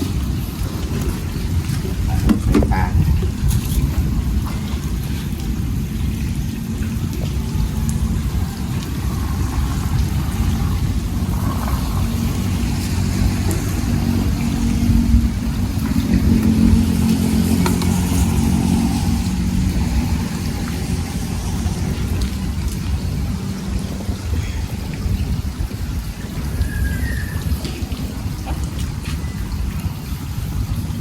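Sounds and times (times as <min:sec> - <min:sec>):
wind-like rushing noise: 0:00.0 - 0:31.0.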